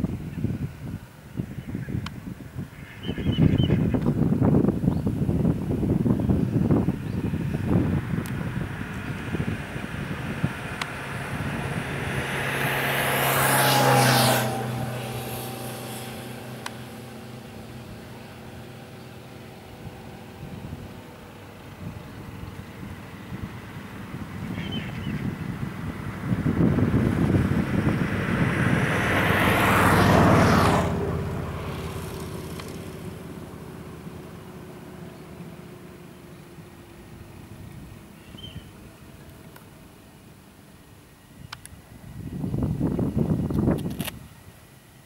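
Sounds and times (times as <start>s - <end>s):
rushing noise of passing vehicle: 0.0s - 40.4s
vehicle engine hum: 0.0s - 45.0s.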